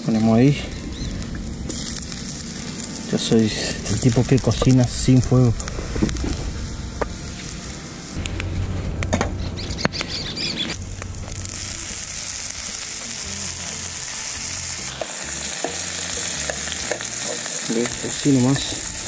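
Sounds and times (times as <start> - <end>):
meat sizzling in a pan: 0.0 - 8.2, 10.2 - 19.0.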